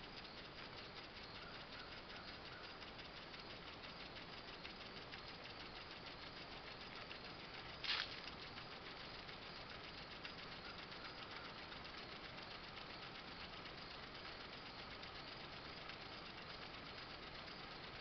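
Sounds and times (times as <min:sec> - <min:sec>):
toy steam engine chuffing: 0:00.0 - 0:18.0.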